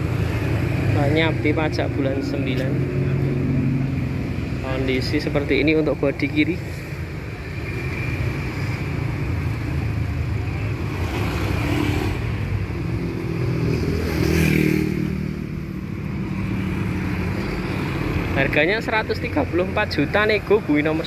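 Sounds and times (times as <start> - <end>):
motorcycles passing: 0.0 - 21.0
traffic engine rumble: 0.0 - 21.0
vehicles passing close: 0.0 - 21.0.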